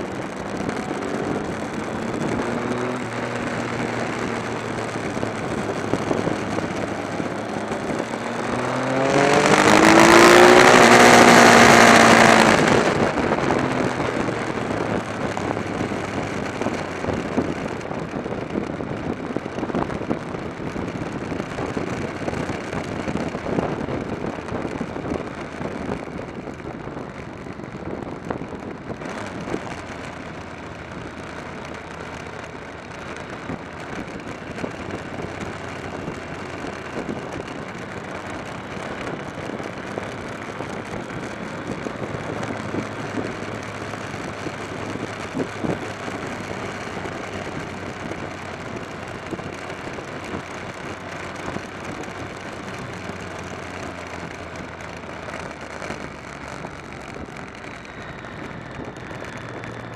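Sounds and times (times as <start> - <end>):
motorcycle engine running: 0.0 - 59.9
road noise: 0.0 - 59.9.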